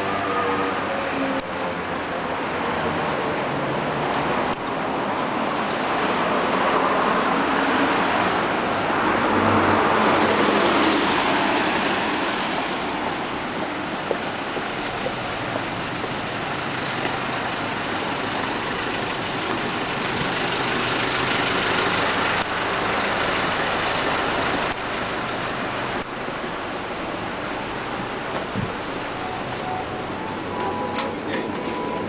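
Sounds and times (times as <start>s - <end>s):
traffic driving by: 0.0s - 32.0s.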